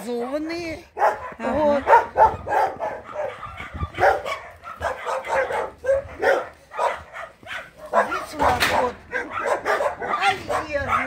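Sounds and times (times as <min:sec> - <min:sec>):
dogs barking: 0:00.8 - 0:11.0.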